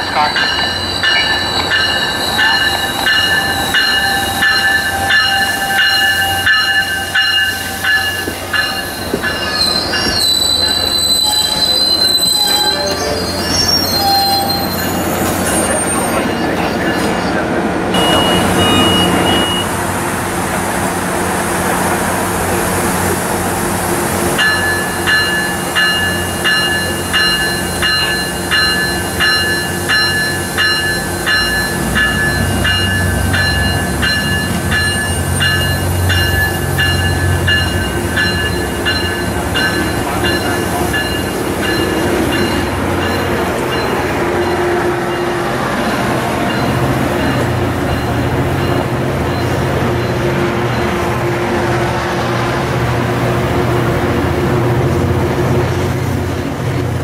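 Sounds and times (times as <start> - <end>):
train bell ringing: 0.0 - 17.4, 18.0 - 19.8, 24.4 - 51.3
freight train rumbling past: 0.0 - 57.0.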